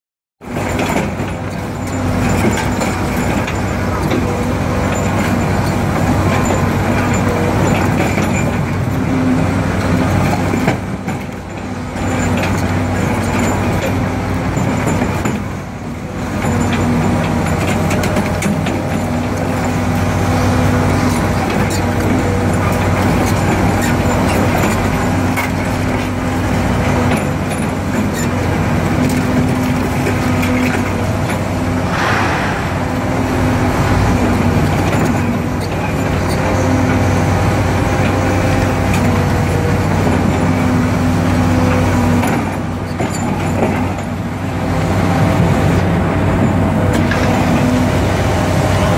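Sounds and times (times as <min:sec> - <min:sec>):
excavator engine and hydraulics: 0:00.4 - 0:48.9.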